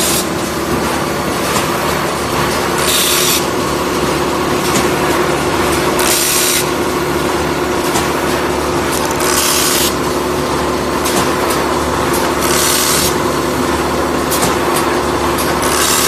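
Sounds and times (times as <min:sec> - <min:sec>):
machine hum and rattle: 0:00.0 - 0:16.0.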